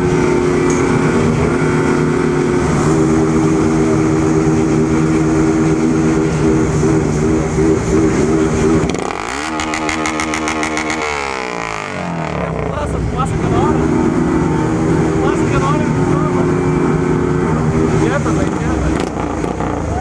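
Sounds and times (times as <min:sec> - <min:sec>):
motorcycle engine without muffler: 0:00.0 - 0:20.0.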